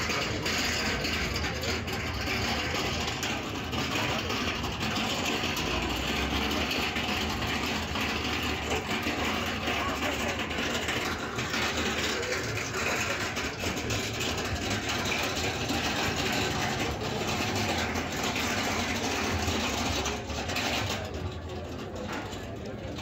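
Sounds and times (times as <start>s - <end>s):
street bustle: 0.0s - 23.0s
vehicle engine idling: 0.0s - 23.0s.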